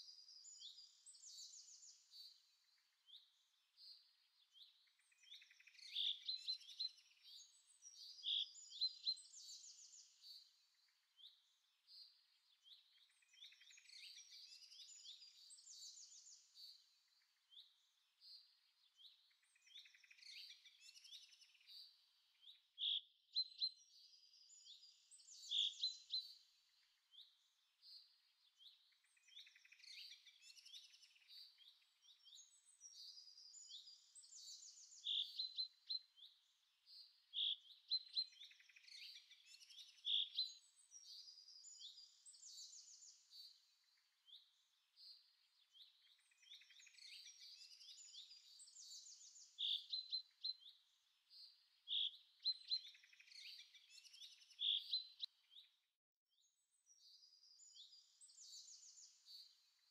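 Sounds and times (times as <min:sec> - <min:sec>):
faint bird chirps and trills: 0:00.0 - 0:59.9.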